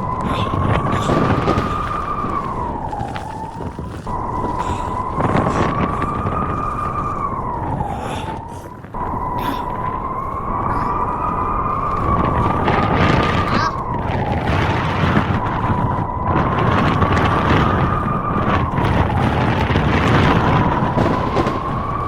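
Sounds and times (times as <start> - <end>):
blizzard wind howling: 0.0 - 22.0.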